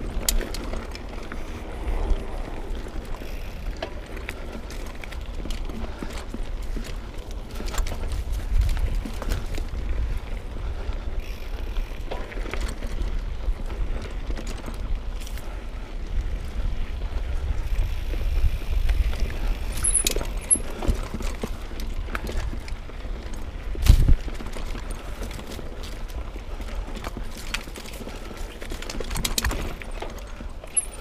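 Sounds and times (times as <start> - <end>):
bike rattles and knocks: 0.0 - 31.0
bike rumbling over rough trail: 0.0 - 31.0.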